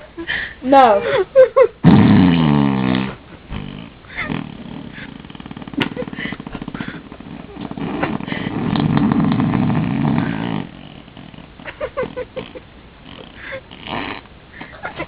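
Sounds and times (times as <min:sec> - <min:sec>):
raspberry blown on skin: 0:01.8 - 0:14.8.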